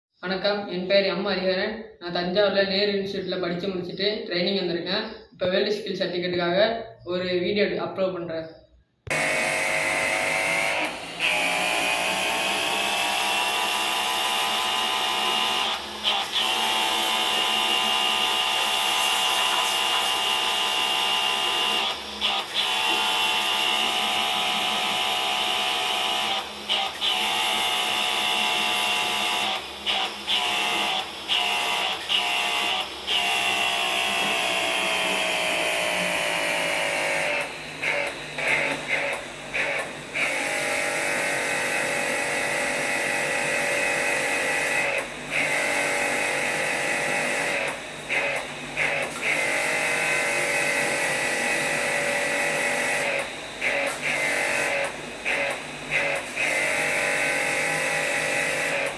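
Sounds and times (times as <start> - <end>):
small electric motor whining: 9.1 - 58.9.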